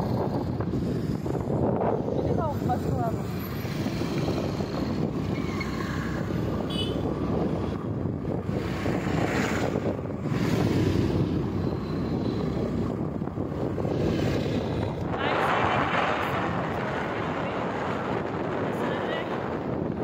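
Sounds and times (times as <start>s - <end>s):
road noise: 0.0s - 20.0s
vehicle engine rumble: 0.0s - 20.0s
wind on microphone: 0.0s - 20.0s.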